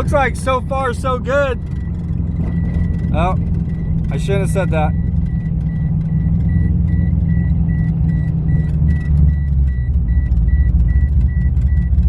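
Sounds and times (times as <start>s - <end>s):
car engine rumble from cabin: 0.0s - 12.0s
dashboard warning chime beeping: 0.8s - 12.0s.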